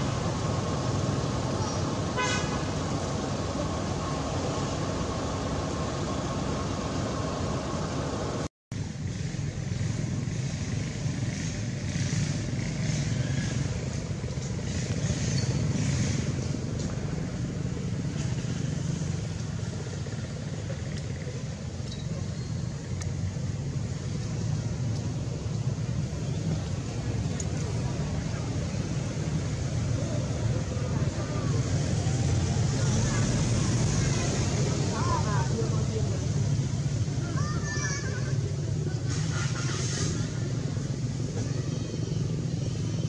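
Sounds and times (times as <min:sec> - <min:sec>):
low outdoor rumble: 0:00.0 - 0:43.0.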